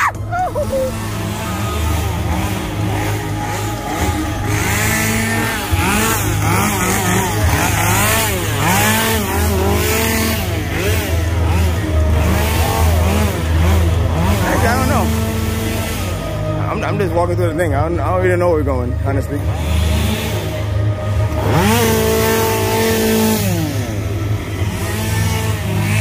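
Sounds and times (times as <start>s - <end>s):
engine revving: 0.0s - 26.0s
steady low drone: 0.0s - 26.0s.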